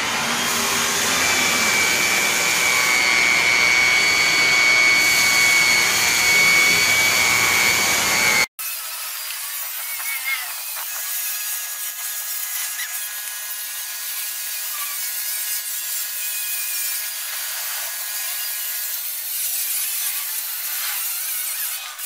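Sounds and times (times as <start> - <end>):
electric polisher whining: 0.0 - 22.0.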